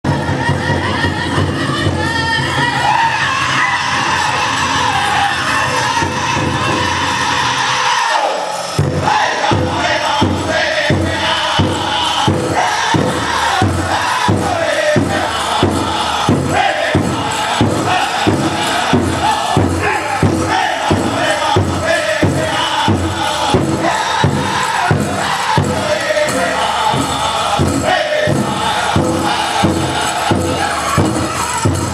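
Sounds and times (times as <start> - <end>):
big drum beating: 0.1 - 7.7, 8.8 - 31.9
group singing in high voices: 0.1 - 31.9.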